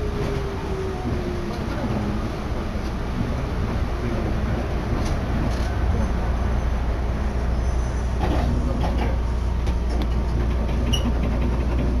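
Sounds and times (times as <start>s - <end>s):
monorail car rumble: 0.0s - 12.0s.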